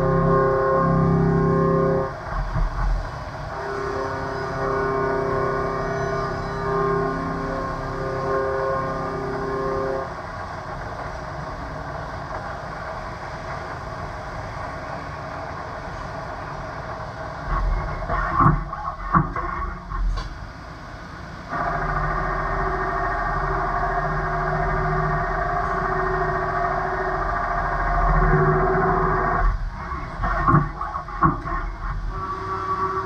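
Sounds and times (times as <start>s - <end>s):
machines humming: 0.0s - 33.0s
tonal machine hum: 0.0s - 33.0s.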